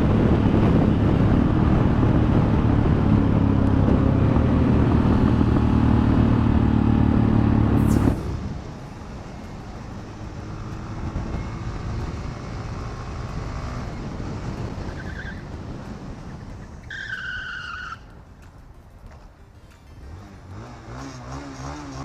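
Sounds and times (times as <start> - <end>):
motorcycle engine: 0.0 - 16.9, 19.1 - 22.0.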